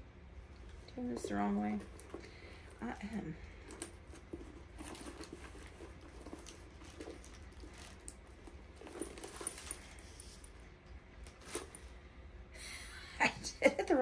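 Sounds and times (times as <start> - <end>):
purse rustling and clicking: 0.6 - 12.0.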